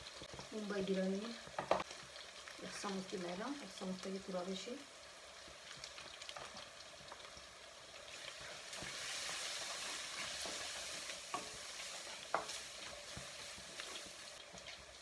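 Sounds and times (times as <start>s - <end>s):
onions and spices sizzling in oil: 0.0s - 15.0s.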